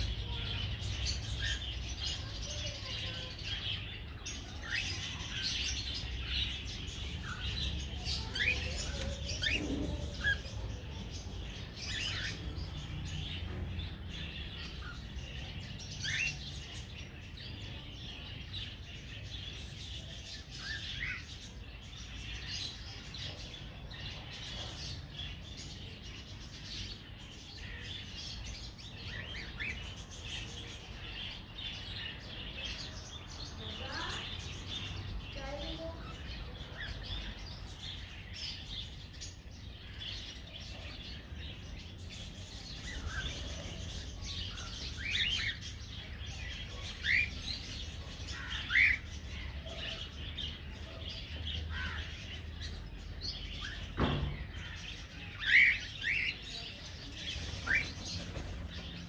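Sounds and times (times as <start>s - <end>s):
cockatiels chirping and chattering: 0.0s - 12.9s, 13.5s - 17.7s, 19.5s - 59.0s.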